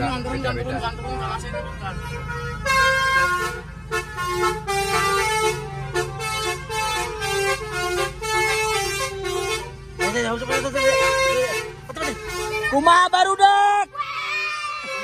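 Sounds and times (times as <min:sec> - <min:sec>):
musical car horn melody: 0:00.0 - 0:15.0.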